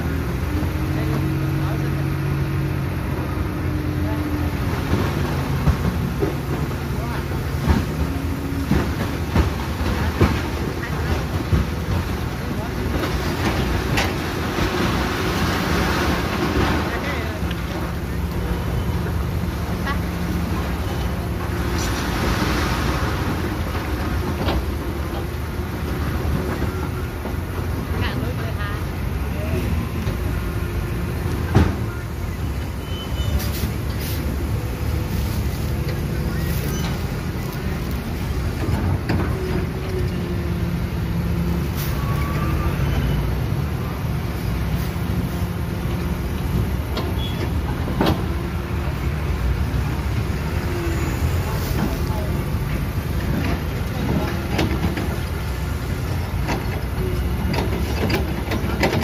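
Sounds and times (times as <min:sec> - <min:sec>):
diesel engines rumbling: 0:00.0 - 0:59.0.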